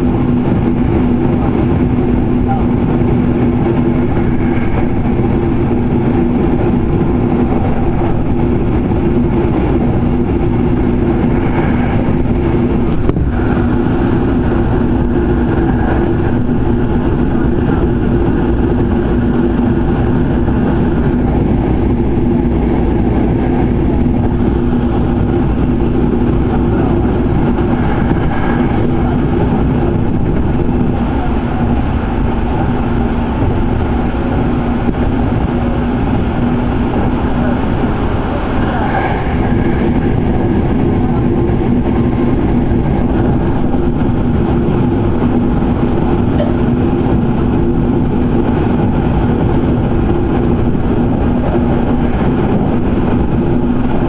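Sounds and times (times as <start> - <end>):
running gear hum: 0.0 - 54.0
train wheels rumbling on rail: 0.0 - 54.0.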